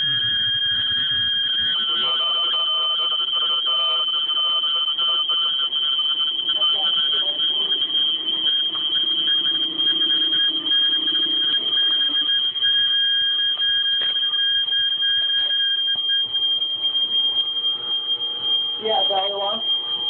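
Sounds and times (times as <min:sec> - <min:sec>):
fire alarm continuous tone: 0:00.0 - 0:20.0.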